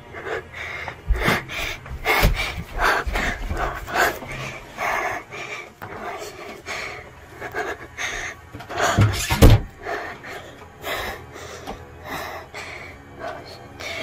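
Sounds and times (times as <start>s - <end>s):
breathy panting: 0.0s - 14.0s.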